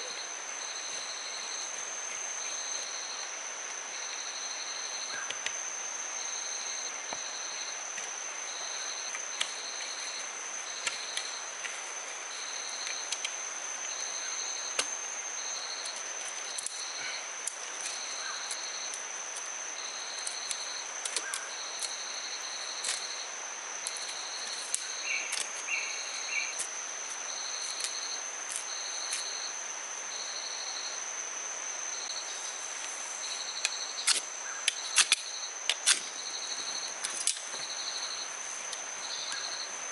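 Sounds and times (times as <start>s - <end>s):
background hiss: 0.0s - 39.9s
insect chirping pulses: 0.0s - 39.9s
insect high-pitched buzz: 0.0s - 39.9s.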